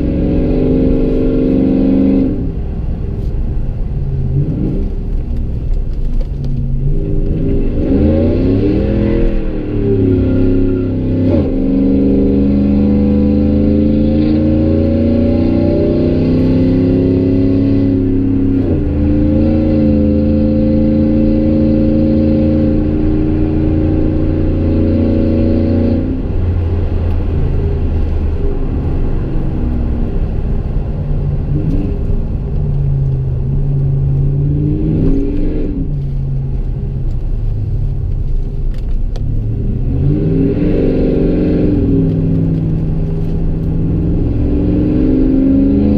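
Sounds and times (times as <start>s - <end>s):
truck exhaust note while driving: 0.0s - 45.9s.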